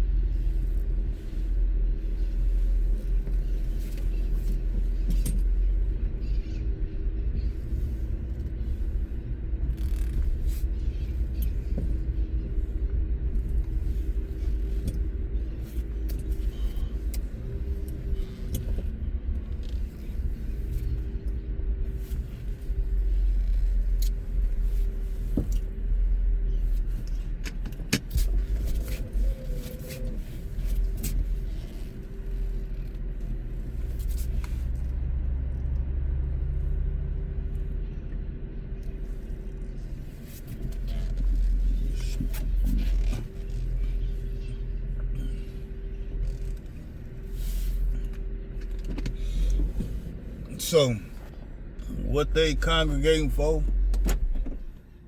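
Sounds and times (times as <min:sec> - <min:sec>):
vehicle engines rumbling: 0:00.0 - 0:55.0.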